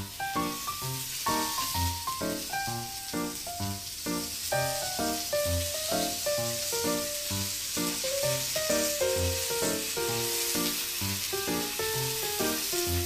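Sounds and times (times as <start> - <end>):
batter sizzling on griddle: 0.0 - 13.0.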